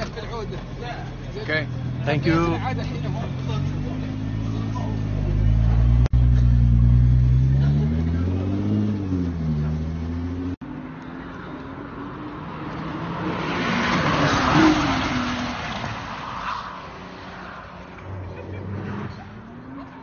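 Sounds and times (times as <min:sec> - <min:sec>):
road noise: 0:00.0 - 0:20.0
sports car engine: 0:00.0 - 0:20.0.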